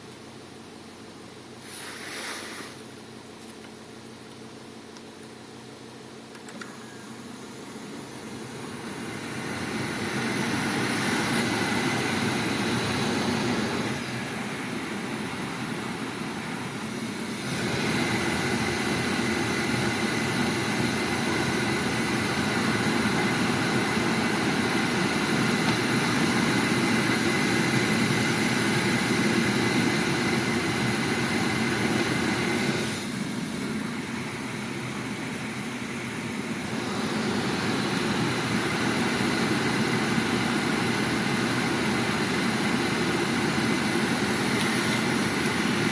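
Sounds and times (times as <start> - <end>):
heater blower fan running: 0.0 - 45.9.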